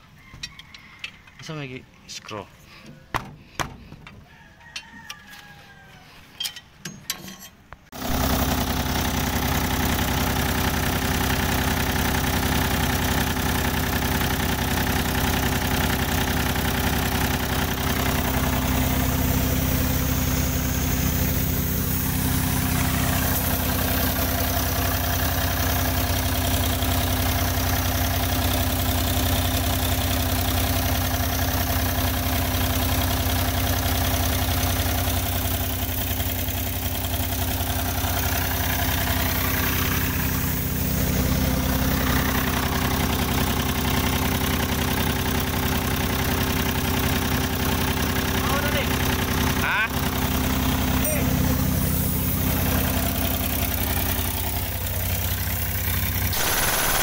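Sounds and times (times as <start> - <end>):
diesel engine idling: 8.0 - 57.0.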